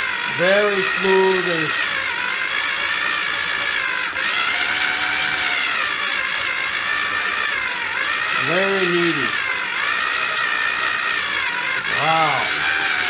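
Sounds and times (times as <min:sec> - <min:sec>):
mixer motor whining: 0:00.0 - 0:13.0.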